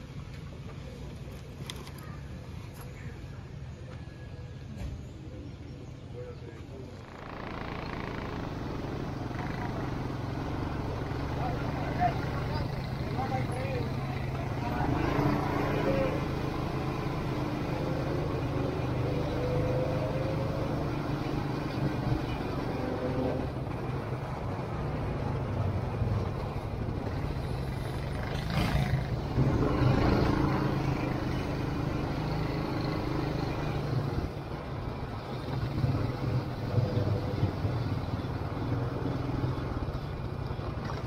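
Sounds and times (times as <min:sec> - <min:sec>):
atv engines running: 0:00.0 - 0:41.0.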